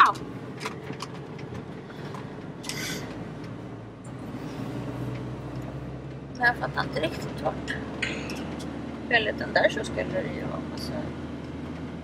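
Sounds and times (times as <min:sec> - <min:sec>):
engine and road hum: 0:00.0 - 0:12.0.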